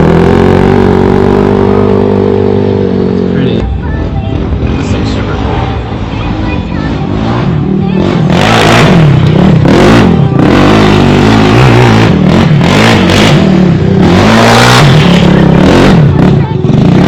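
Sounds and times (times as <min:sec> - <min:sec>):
quad engine revving: 0:00.0 - 0:03.8, 0:04.4 - 0:17.0
loud rushing noise: 0:00.0 - 0:17.0.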